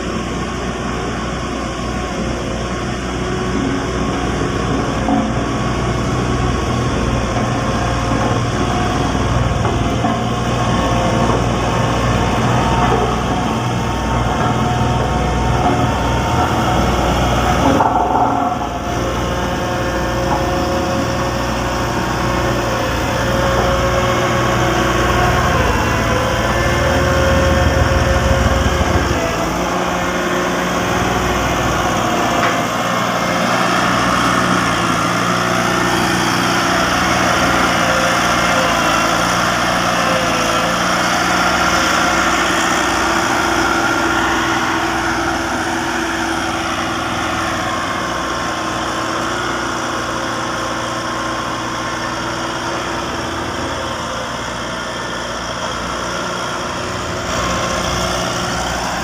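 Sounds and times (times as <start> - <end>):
road roller diesel engine running: 0.0 - 59.0.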